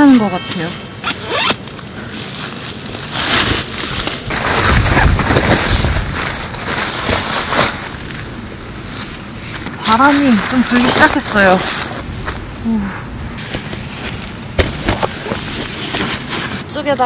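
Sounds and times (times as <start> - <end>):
foil and tarp crinkling: 0.0 - 17.0.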